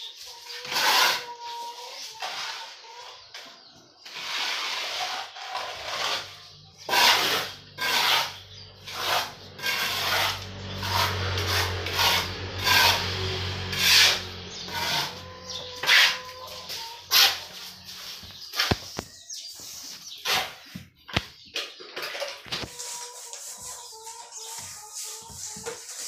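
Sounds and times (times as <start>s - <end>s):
trowel scraping cement on wall: 0.5s - 1.4s, 2.0s - 2.8s, 4.0s - 19.0s, 19.9s - 20.9s, 21.7s - 26.0s.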